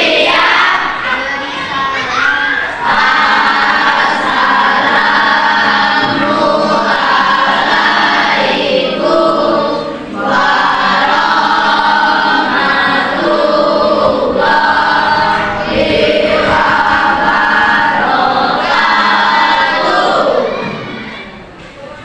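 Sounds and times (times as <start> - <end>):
group of voices singing: 0.0 - 20.9.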